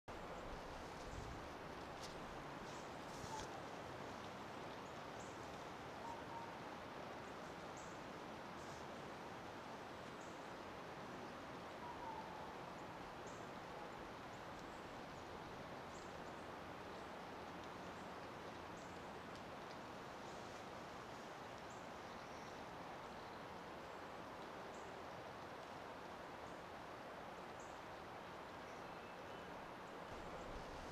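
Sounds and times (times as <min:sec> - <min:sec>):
faint outdoor hiss: 0:00.1 - 0:30.9.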